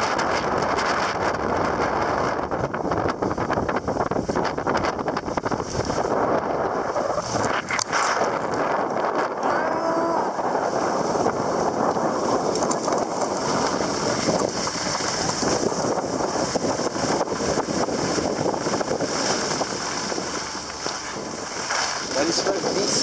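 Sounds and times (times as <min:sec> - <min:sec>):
skis scraping over snow: 0:00.0 - 0:23.0
wind on microphone: 0:00.0 - 0:23.0.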